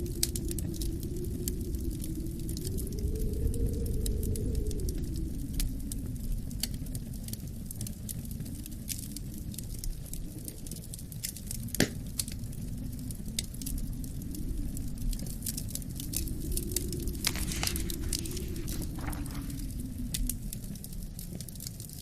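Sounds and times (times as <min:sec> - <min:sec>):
low wind rumble: 0:00.0 - 0:22.0
wood fire crackling: 0:00.0 - 0:22.0.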